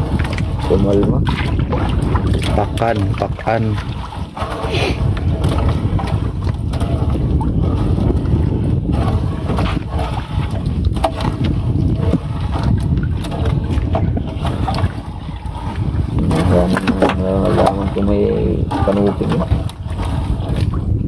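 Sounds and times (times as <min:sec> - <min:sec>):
boat low rumble: 0:00.0 - 0:21.0
wind buffeting microphone: 0:00.0 - 0:21.0.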